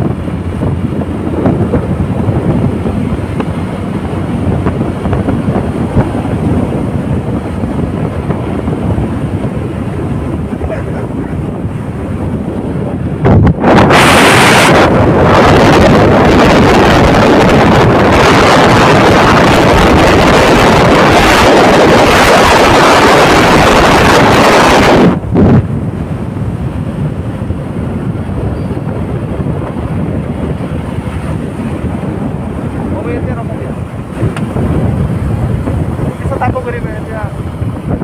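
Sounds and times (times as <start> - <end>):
road noise: 0.0 - 38.0
wind buffeting microphone: 0.0 - 38.0.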